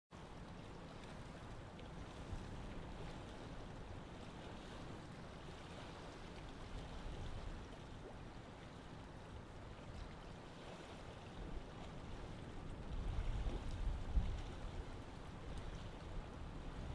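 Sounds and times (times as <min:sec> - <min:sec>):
low rumble and hiss: 0:00.2 - 0:16.9.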